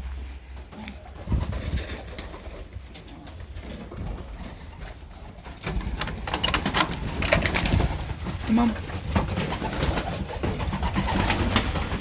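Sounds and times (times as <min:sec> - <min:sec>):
pigeons cooing: 0:00.2 - 0:12.0.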